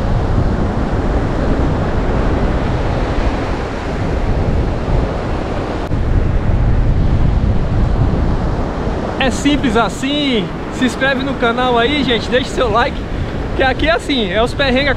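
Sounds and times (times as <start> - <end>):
surf washing on beach: 0.0 - 14.9
wind buffeting microphone: 0.0 - 14.9.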